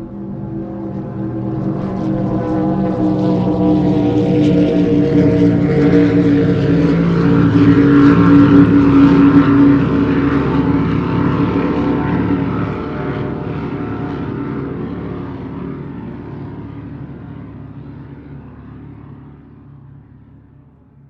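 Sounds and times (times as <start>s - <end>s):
steady engine drone: 0.0s - 21.0s.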